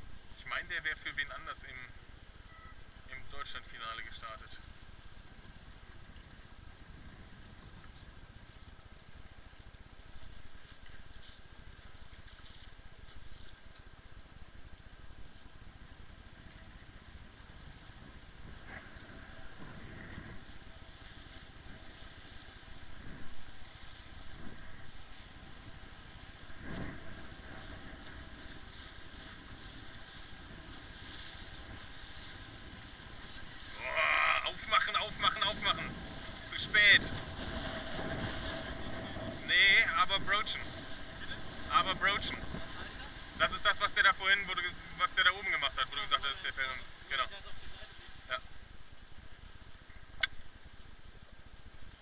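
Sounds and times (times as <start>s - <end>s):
motorboat engine running: 0.0s - 51.6s.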